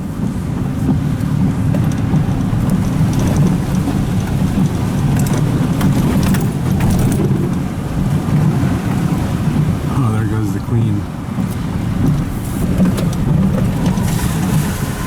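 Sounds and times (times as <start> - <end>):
water spraying against vehicle: 0.0 - 15.0.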